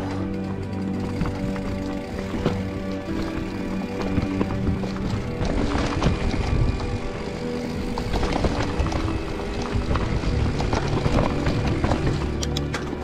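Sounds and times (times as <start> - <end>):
background music: 0.0 - 13.0
bike rattling over rocks: 0.0 - 13.0.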